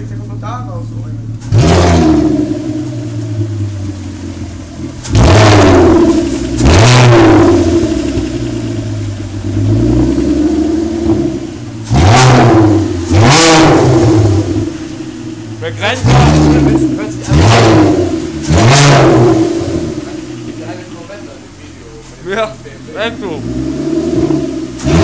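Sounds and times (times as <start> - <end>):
car engine revving and idling: 0.0 - 25.0.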